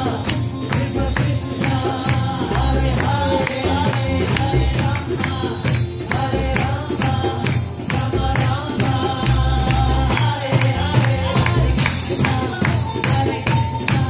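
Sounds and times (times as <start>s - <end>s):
hand percussion beat: 0.0s - 14.0s
women chanting: 0.0s - 14.0s.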